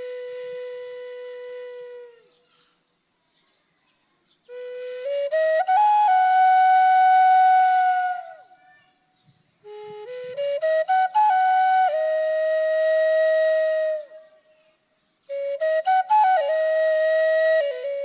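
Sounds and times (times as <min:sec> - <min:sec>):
solo flute-like wind instrument: 0:00.0 - 0:02.6, 0:04.5 - 0:08.7, 0:09.6 - 0:14.7, 0:15.3 - 0:18.0.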